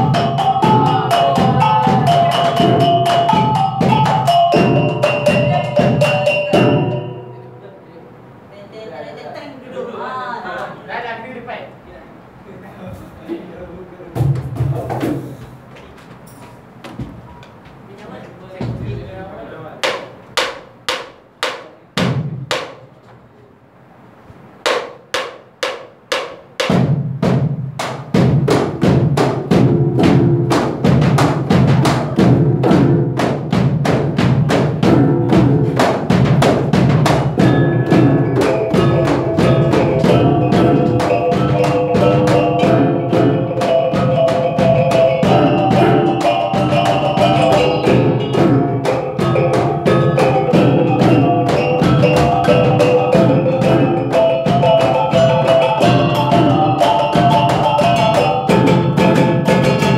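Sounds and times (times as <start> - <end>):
fast drum rhythm: 0.0 - 7.2, 13.9 - 15.5, 18.5 - 22.9, 24.6 - 59.9.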